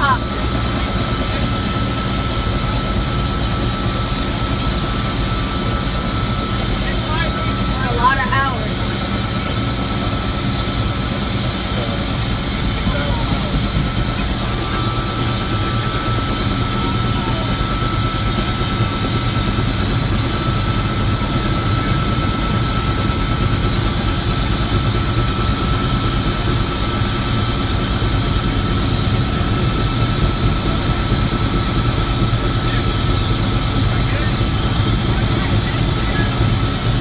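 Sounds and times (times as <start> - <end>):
helicopter engine and rotor drone: 0.0 - 37.0.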